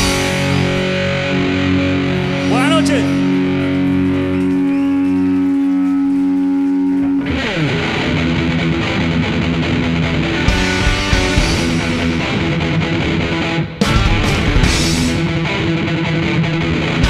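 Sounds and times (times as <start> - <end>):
distorted electric guitar rock music: 0.0 - 17.0.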